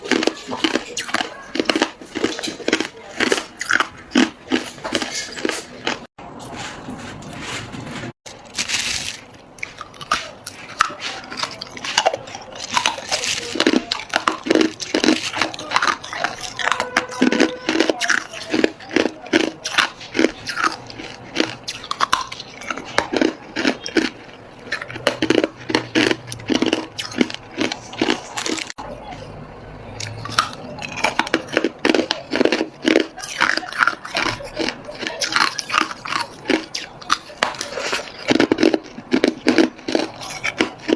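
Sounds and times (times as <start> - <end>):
ice cubes being chewed: 0.0 - 6.1, 8.3 - 29.2, 29.9 - 40.9.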